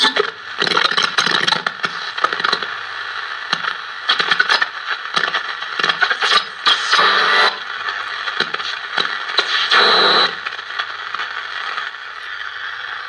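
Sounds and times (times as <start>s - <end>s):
radio static between stations: 0.0s - 13.0s.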